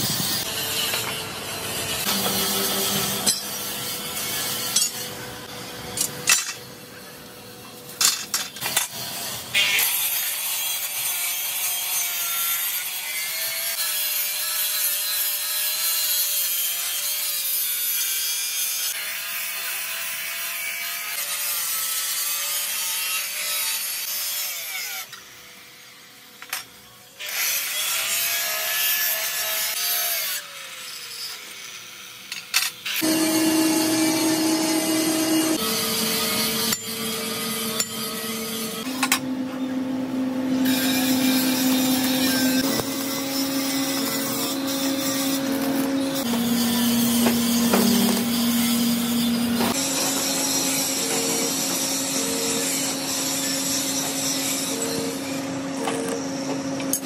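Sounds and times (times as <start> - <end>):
angle grinder cutting steel: 0.0 - 7.2, 8.1 - 57.0.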